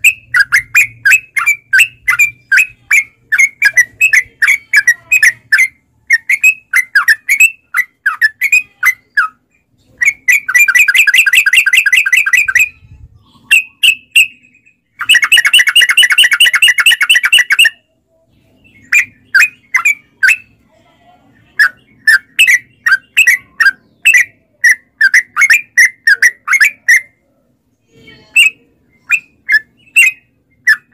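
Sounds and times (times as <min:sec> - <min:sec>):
bulbul chirping and rolling song: 0:00.0 - 0:20.6, 0:21.6 - 0:27.2.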